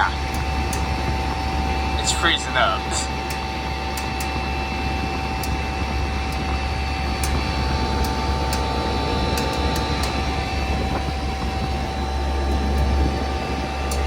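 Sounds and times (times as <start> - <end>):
heat pump hum: 0.0 - 14.0
steady whining tones: 0.0 - 14.0
light ticks: 0.2 - 2.1, 3.1 - 14.0.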